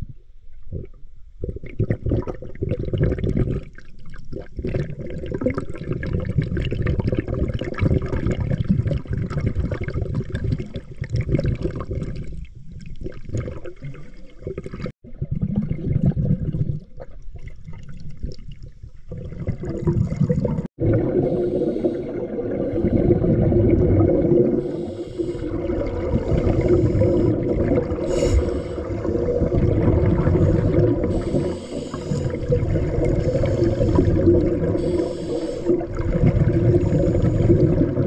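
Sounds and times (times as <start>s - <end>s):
underwater rushing bubbling water: 0.7s - 18.5s, 19.1s - 38.0s.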